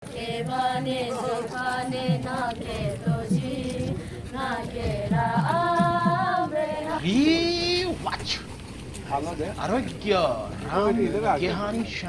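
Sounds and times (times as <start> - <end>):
voices singing chant-like melody: 0.0 - 12.0.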